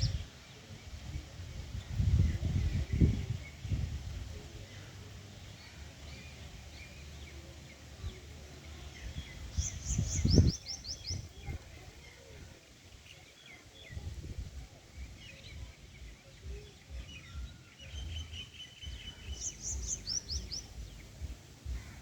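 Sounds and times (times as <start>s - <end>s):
low rumble of wind: 0.0s - 22.0s
small birds chirping: 0.0s - 22.0s.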